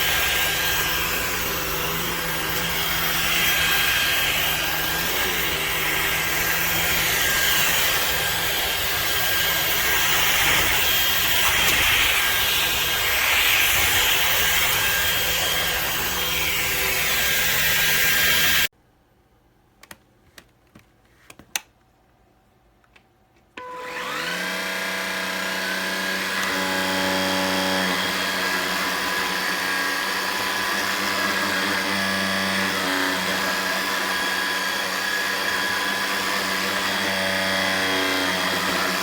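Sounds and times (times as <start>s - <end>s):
stick vacuum motor whine: 0.0s - 18.7s, 23.6s - 39.0s.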